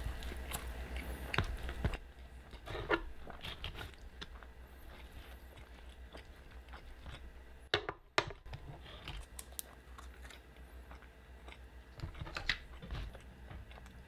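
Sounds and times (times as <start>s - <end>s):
close-up chewing: 0.0s - 7.5s, 8.9s - 14.0s.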